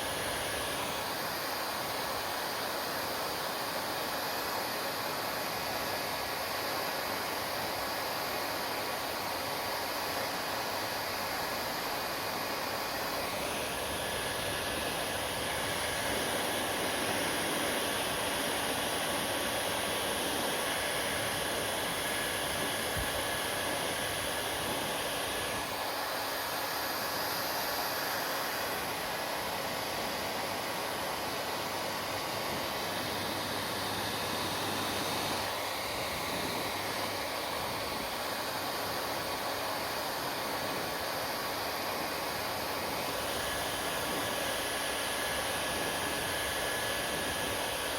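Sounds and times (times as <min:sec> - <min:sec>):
hair dryer blowing: 0:00.0 - 0:47.9.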